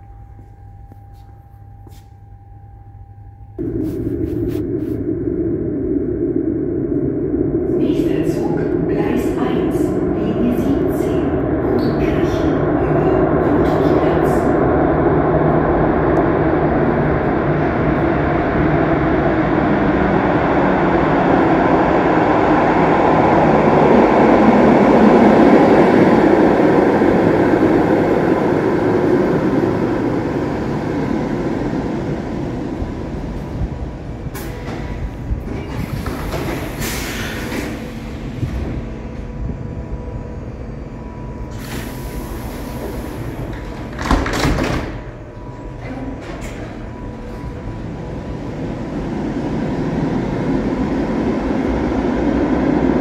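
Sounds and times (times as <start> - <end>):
train rumble and wheel noise: 0.0 - 53.0.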